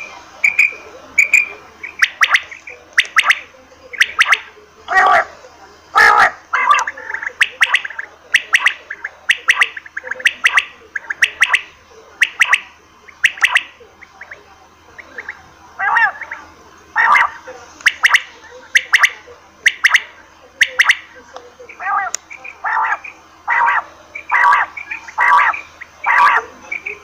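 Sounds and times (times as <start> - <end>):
quail calling: 0.4 - 5.3, 6.0 - 14.4, 15.0 - 21.1, 21.7 - 27.0.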